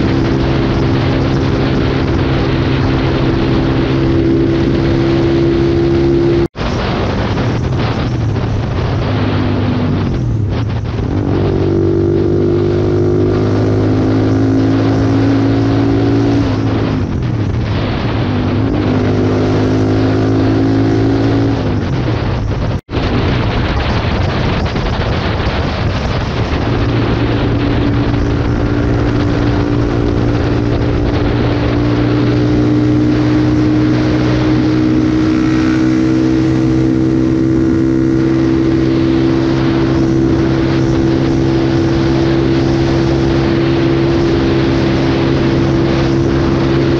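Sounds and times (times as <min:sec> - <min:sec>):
motorcycle engine running hard: 0:00.0 - 0:46.9
wind buffeting the microphone: 0:00.0 - 0:46.9.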